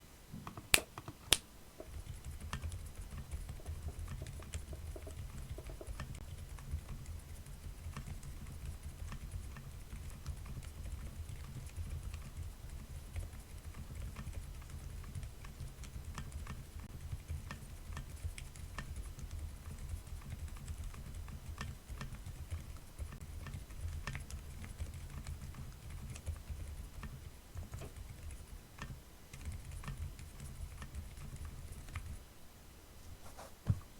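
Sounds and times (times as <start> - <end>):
mechanical keyboard typing: 1.8 - 32.2.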